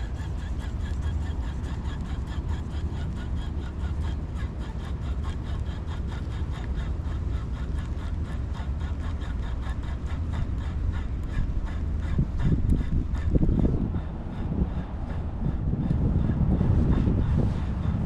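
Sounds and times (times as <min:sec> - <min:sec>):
fishing reel ticking: 0:00.0 - 0:17.6
wind buffeting microphone: 0:00.0 - 0:18.0.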